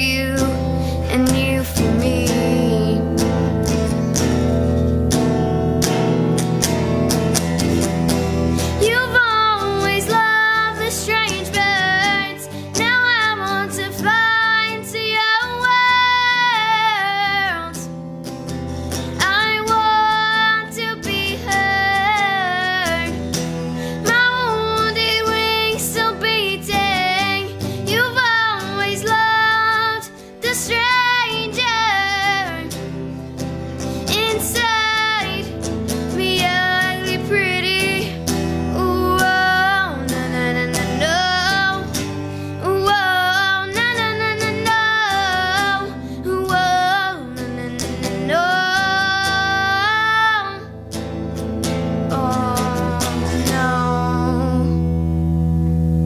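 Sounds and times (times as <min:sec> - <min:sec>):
girl singing: 0:00.0 - 0:04.6, 0:07.3 - 0:18.0, 0:19.0 - 0:55.4
guitar accompaniment: 0:00.0 - 0:56.0.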